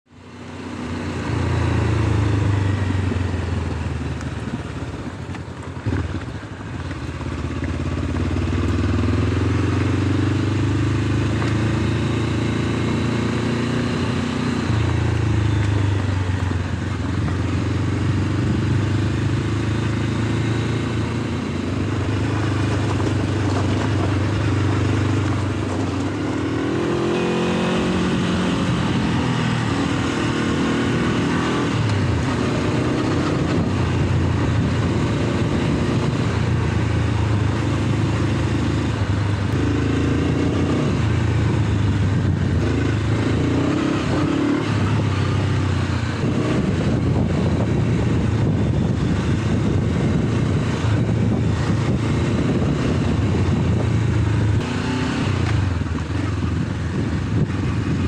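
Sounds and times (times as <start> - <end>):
motorcycle engine revving: 0.1 - 58.0.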